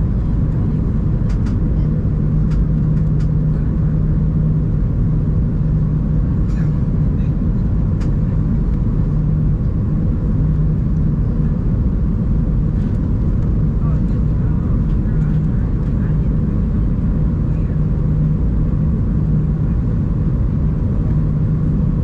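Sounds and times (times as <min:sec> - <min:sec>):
airliner cabin engine roar: 0:00.0 - 0:22.0
low hum: 0:00.0 - 0:22.0.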